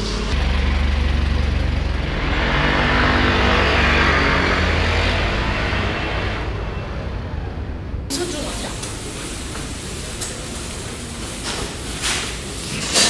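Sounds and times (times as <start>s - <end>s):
vehicle passing by: 0.3s - 11.2s.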